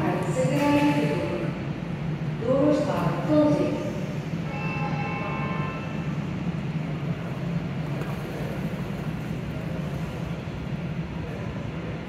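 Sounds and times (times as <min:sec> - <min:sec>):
people-mover train humming: 0:00.0 - 0:12.0.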